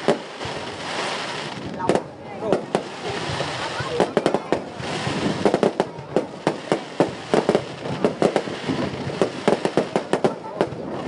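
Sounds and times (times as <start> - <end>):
fireworks bursting with sharp bangs: 0.0 - 11.0
fireworks crackling hiss: 0.0 - 11.0.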